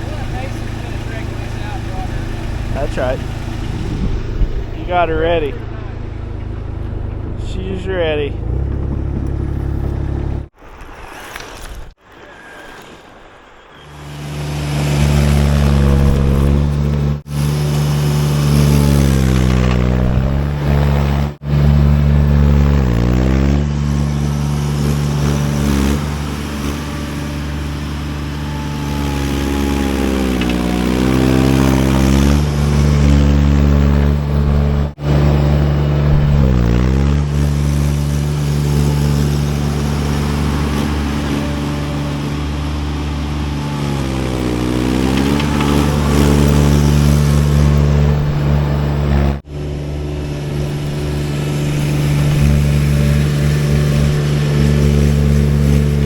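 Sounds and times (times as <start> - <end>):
skid steer engine running: 0.0 - 10.6, 13.9 - 56.0.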